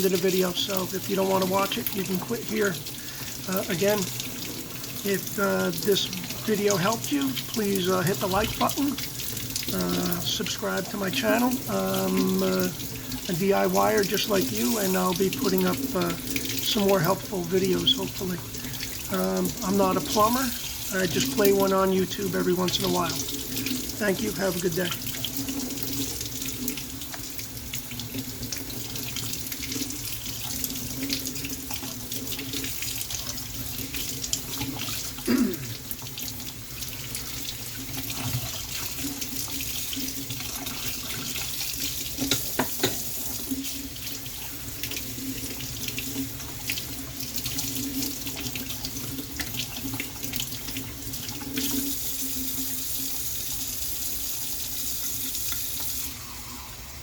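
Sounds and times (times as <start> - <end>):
water running from a tap: 0.0 - 57.0.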